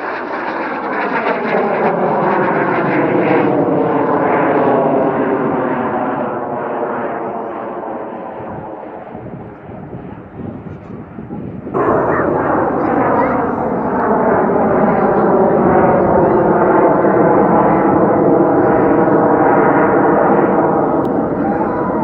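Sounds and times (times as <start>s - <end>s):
jet engine roaring overhead: 0.0s - 22.0s.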